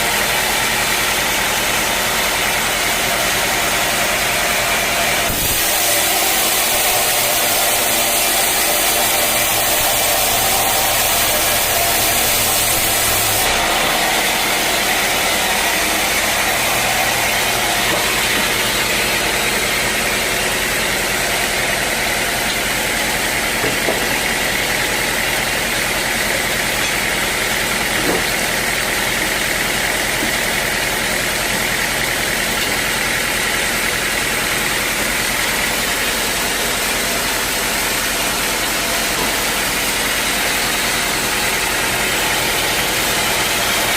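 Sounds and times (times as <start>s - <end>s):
sawmill machinery running: 0.0s - 43.9s.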